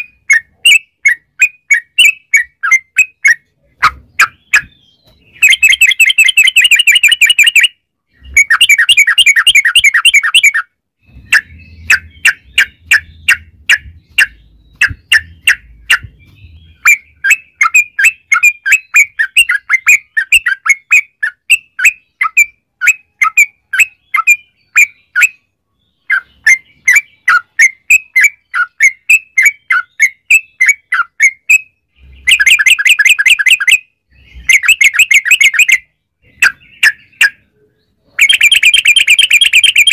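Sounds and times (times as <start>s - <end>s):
bird singing trills and chirps: 0.0s - 39.9s.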